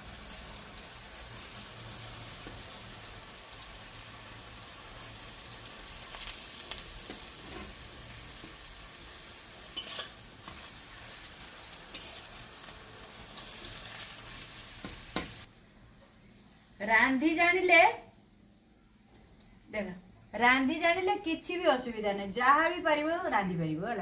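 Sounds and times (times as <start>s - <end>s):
food deep-frying in hot oil: 0.0s - 22.8s.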